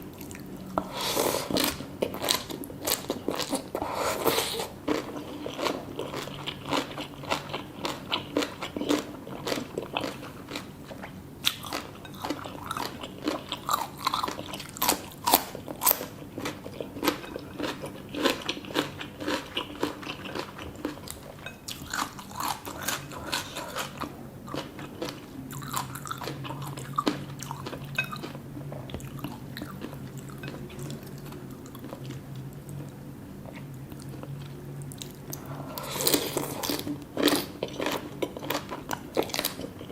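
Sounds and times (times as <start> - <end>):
low steady hum: 0.0 - 39.9
chewing crisp food: 0.1 - 39.9.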